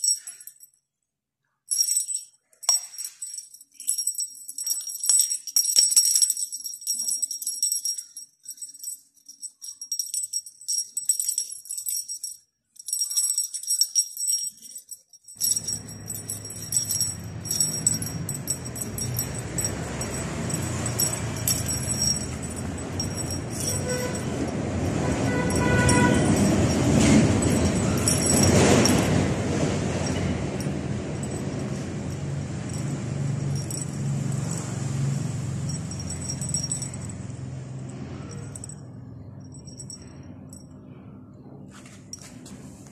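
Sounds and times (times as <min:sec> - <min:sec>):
small bell jingling: 0:00.0 - 0:00.9, 0:01.6 - 0:41.2.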